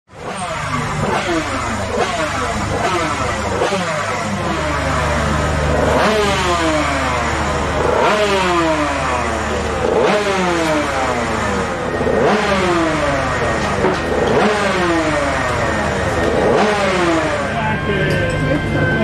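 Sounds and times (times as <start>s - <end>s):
racing motorcycle engine revving: 0.1s - 19.0s.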